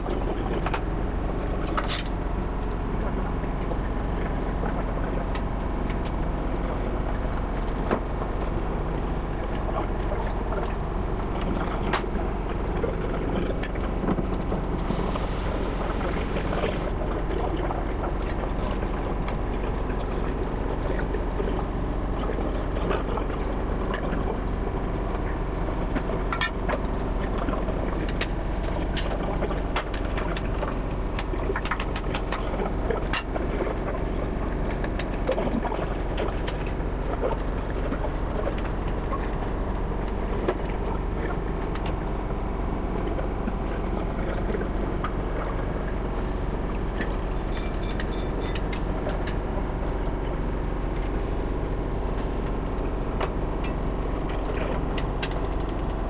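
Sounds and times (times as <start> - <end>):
low workshop hum: 0.0 - 56.0.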